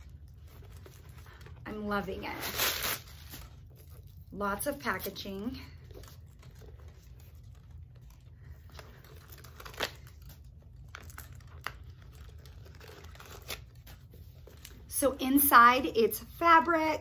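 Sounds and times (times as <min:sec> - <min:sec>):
packing material crinkling: 0:00.0 - 0:15.0.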